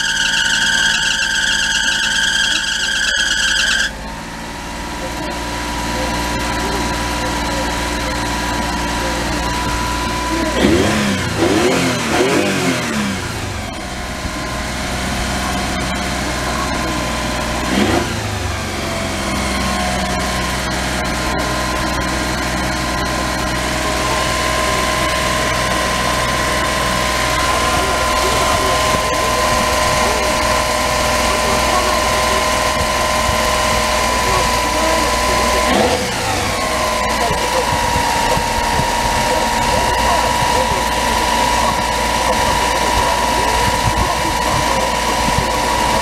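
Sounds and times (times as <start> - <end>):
small engine revving: 0.0 - 46.0.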